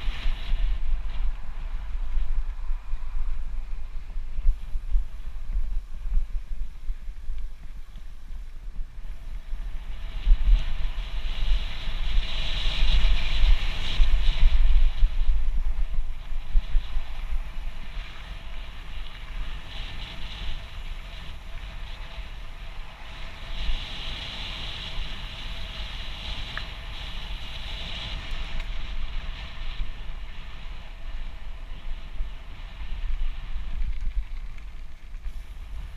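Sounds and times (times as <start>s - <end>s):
bike tyres on gravel: 0.0s - 35.9s
wind buffeting microphone: 0.0s - 35.9s.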